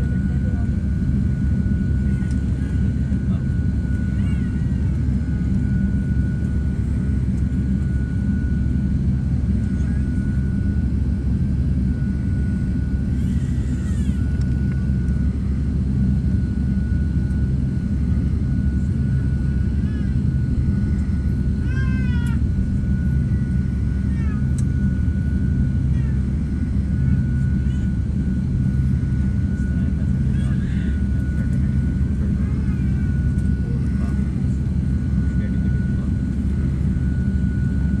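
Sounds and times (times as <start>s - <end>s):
jet engines rumbling and whining: 0.0s - 38.0s.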